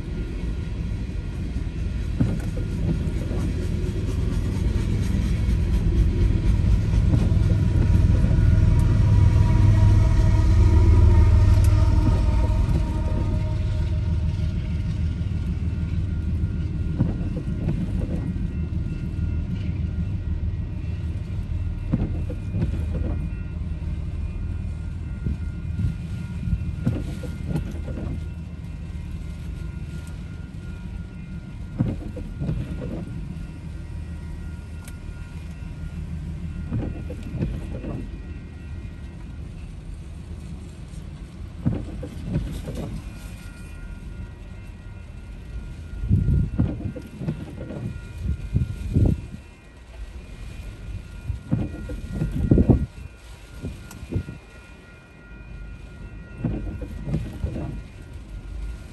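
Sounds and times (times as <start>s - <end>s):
railroad crossing bell ringing: 0.0s - 58.9s
wind and rain rumble: 0.0s - 58.9s.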